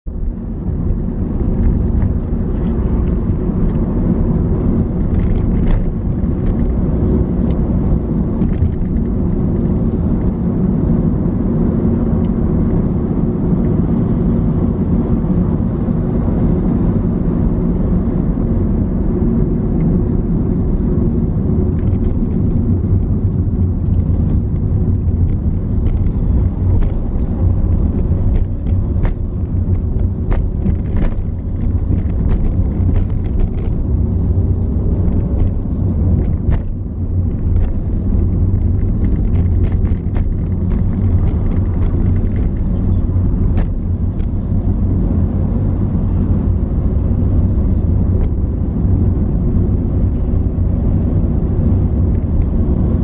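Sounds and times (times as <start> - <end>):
vehicle road and engine rumble: 0.0 - 53.0.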